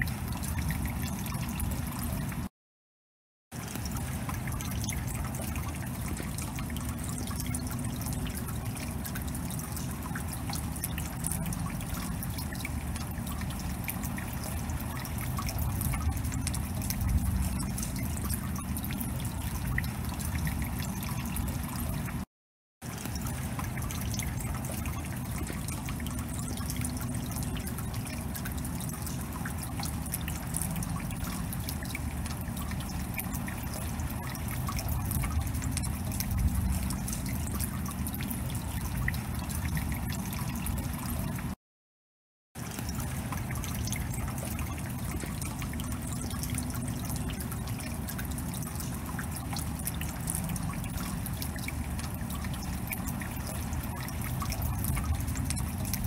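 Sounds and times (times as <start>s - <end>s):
running water trickling: 0.0s - 2.5s, 3.6s - 41.6s, 42.6s - 56.0s
rain drops pattering: 3.6s - 22.2s, 22.9s - 41.5s, 42.6s - 56.0s.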